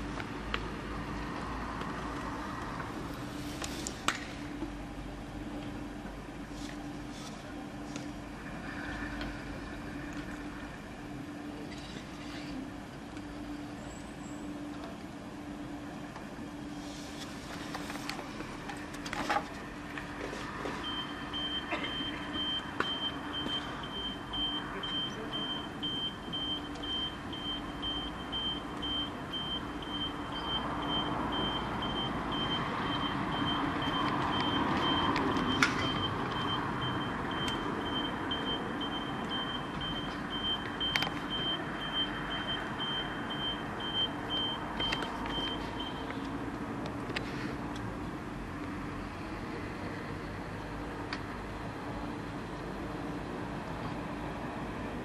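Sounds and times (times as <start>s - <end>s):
steady background noise: 0.0s - 55.0s
vehicle engine: 0.0s - 55.0s.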